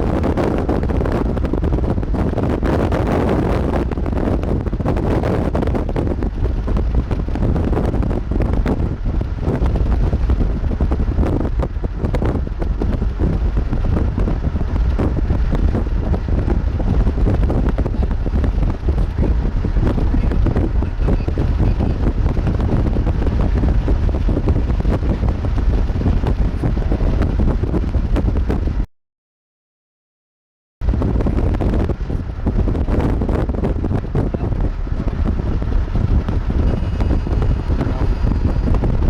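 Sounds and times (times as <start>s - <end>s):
wind buffeting microphone: 0.0s - 28.9s, 30.8s - 39.0s.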